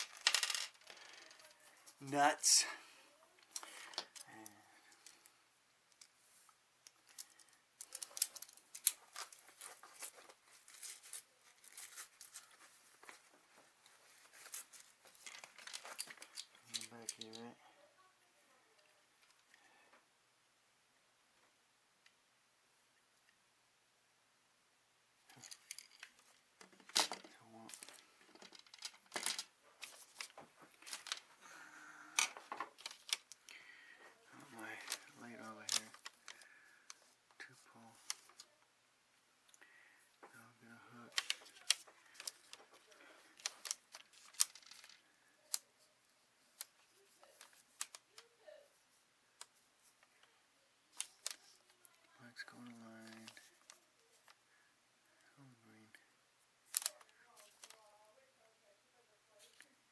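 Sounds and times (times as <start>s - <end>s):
faint clicking and rustling of wires: 0.0s - 20.2s, 21.2s - 22.3s, 22.9s - 23.4s, 25.2s - 59.9s.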